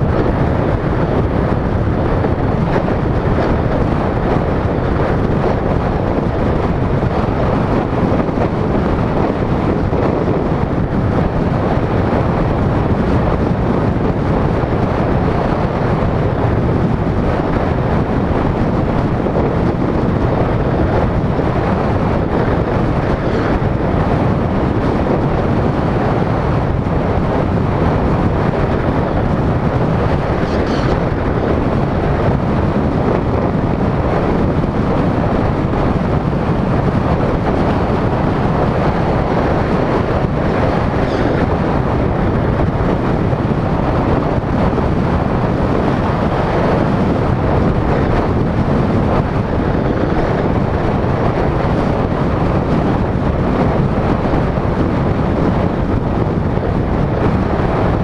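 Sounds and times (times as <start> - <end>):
road noise: 0.0 - 58.0
wind noise on microphone: 0.0 - 58.0.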